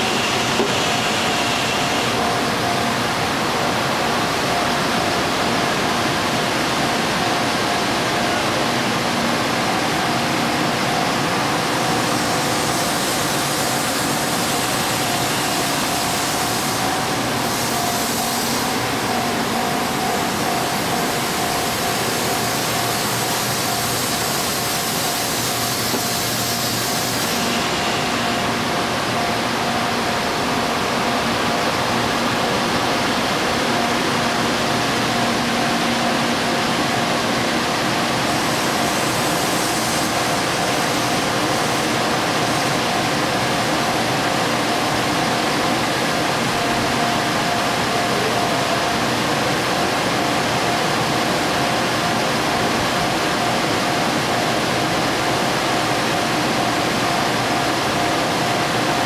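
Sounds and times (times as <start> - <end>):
crossing warning bell ringing: 0.0 - 59.0
train rushing noise: 0.0 - 59.0.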